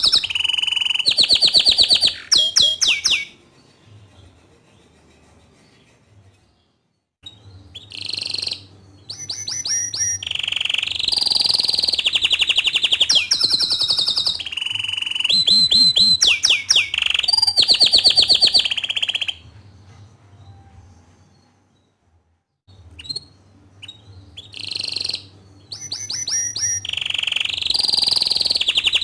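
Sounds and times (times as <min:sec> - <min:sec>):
canary singing trills: 0:00.0 - 0:04.4, 0:07.2 - 0:21.6, 0:22.7 - 0:29.0.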